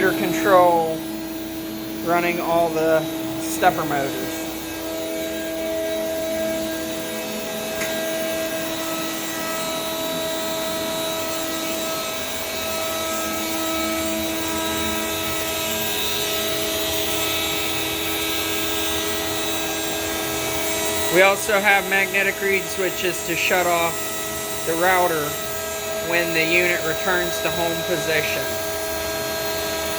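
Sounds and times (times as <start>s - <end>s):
dust collection blower rushing: 0.0s - 29.9s
router spindle and motors whining: 0.0s - 29.9s.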